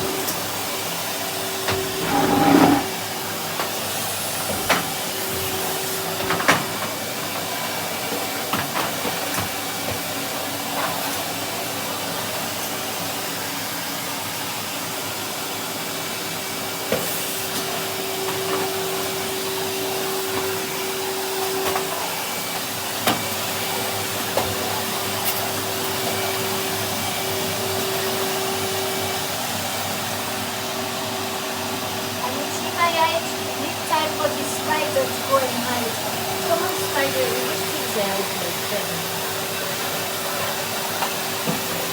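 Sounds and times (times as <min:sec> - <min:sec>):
vacuum cleaner humming: 0:00.0 - 0:41.9.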